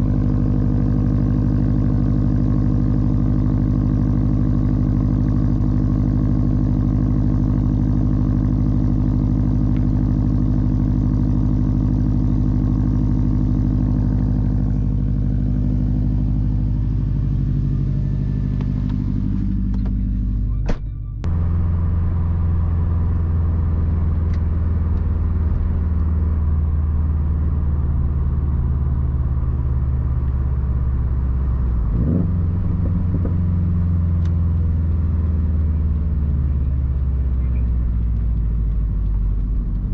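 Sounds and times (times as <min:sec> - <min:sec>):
turbocharged car engine: 0:00.0 - 0:39.9.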